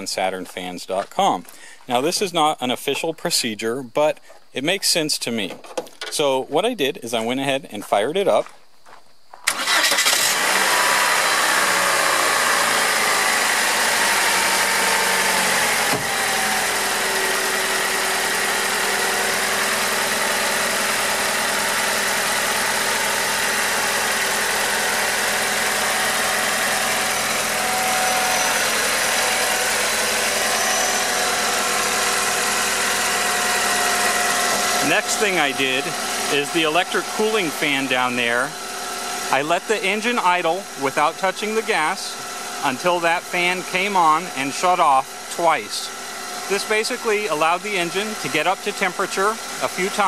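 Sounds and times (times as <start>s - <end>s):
car engine idling: 9.5s - 50.0s.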